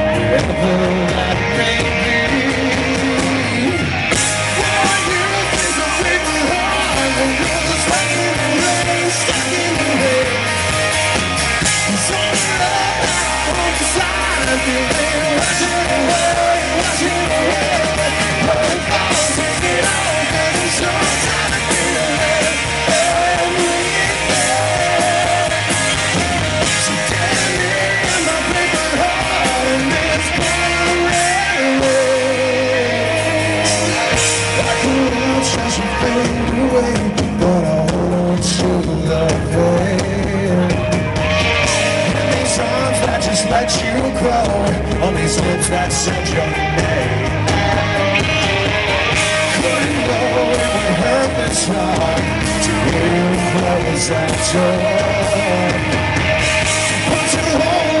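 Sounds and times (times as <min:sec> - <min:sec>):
drum kit: 0:00.0 - 0:58.0
electric guitar: 0:00.0 - 0:58.0
man singing: 0:00.0 - 0:58.0.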